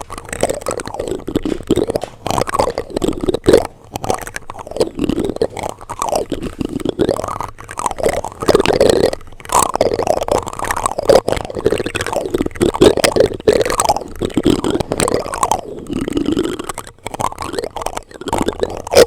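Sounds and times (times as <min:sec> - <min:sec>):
plastic utensils scraping microphone: 0:00.0 - 0:18.9.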